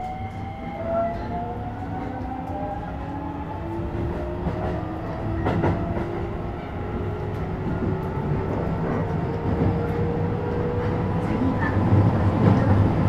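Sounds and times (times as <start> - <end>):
train wheel and track rumble: 0.0 - 13.0.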